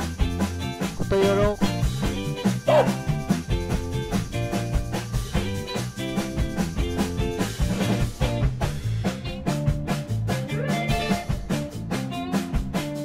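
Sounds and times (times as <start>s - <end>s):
upbeat instrumental music: 0.0s - 13.0s.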